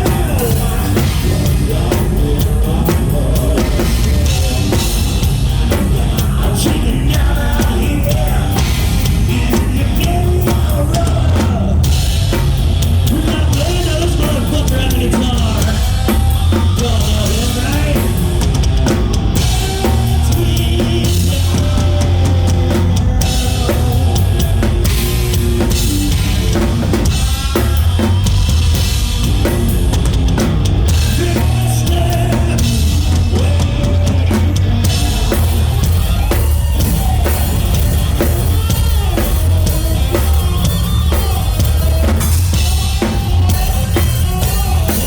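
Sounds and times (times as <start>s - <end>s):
rock band playing: 0.0s - 45.0s
sung vocals: 0.0s - 45.0s.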